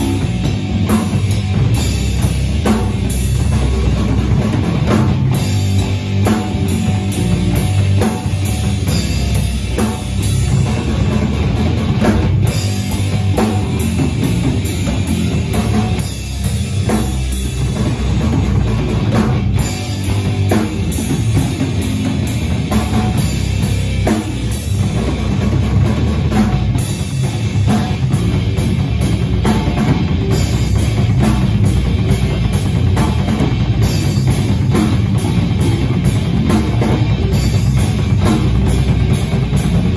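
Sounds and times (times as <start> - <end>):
drum kit fast beat: 0.0 - 39.9
live rock band playing: 0.0 - 39.9.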